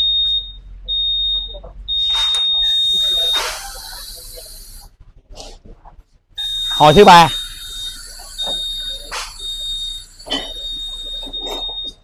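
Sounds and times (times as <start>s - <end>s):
high steady buzzer beeps: 0.0s - 4.9s, 6.4s - 12.0s.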